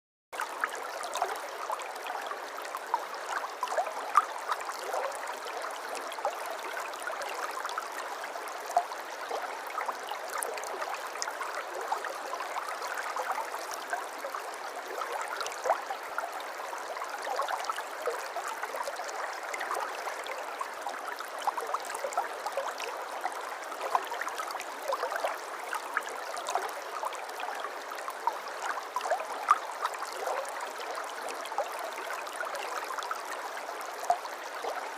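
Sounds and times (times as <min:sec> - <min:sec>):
stream flowing and gurgling: 0:00.4 - 0:34.9.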